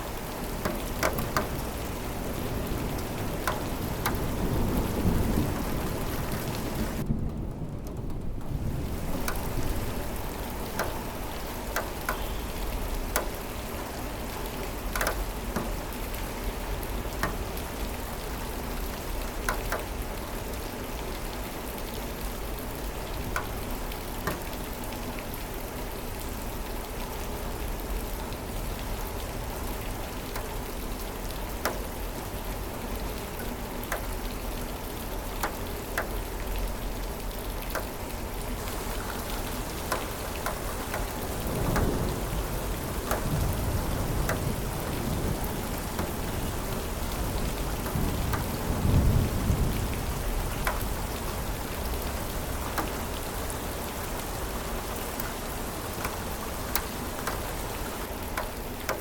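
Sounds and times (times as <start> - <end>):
sharp water drips: 0.0 - 7.0, 7.9 - 59.0
steady rain hiss: 0.0 - 59.0.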